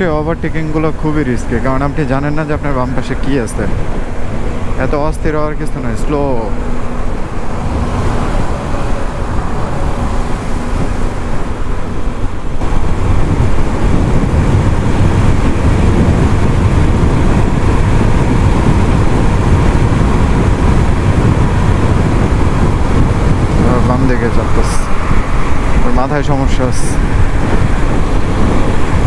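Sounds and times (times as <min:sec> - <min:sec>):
road noise: 0:00.0 - 0:29.0
wind noise on microphone: 0:00.0 - 0:29.0.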